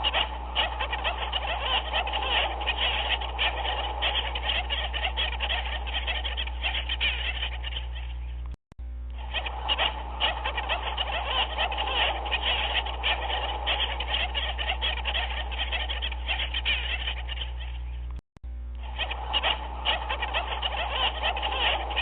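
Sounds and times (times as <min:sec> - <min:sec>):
chorus of animals calling: 0:00.0 - 0:08.5, 0:09.2 - 0:18.1, 0:18.8 - 0:22.0
low hum: 0:00.0 - 0:22.0.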